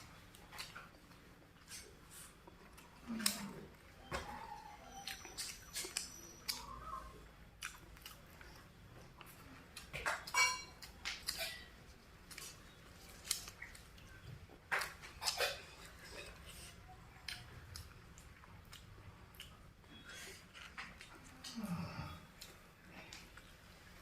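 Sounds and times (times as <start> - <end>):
chewing crunchy vegetables: 0.0 - 24.0.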